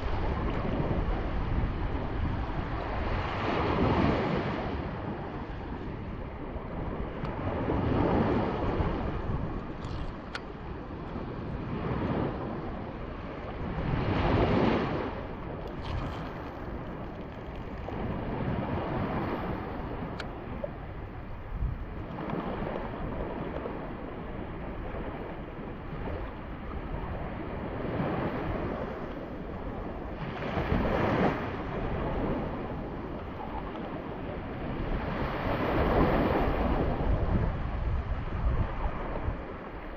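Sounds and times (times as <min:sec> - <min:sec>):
wind on microphone: 0:00.0 - 0:39.9
sea water lapping: 0:02.0 - 0:37.0.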